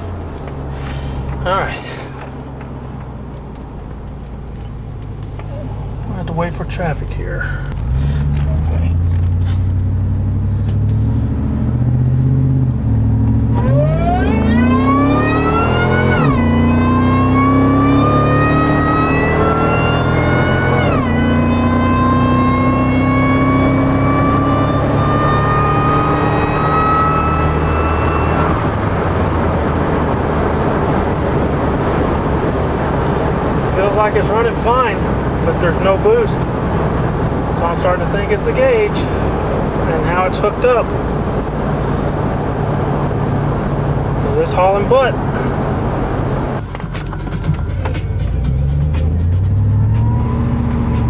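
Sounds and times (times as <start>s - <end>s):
supercharger whine: 0.0s - 51.0s
truck engine accelerating: 0.0s - 51.0s.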